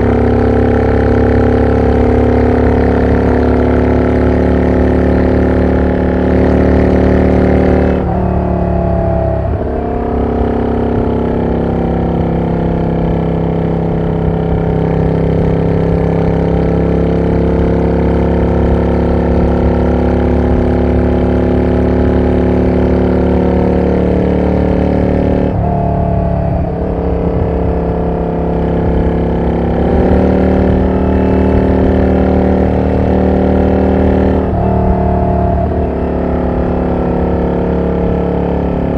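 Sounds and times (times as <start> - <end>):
motorcycle exhaust at cruising speed: 0.0 - 38.9.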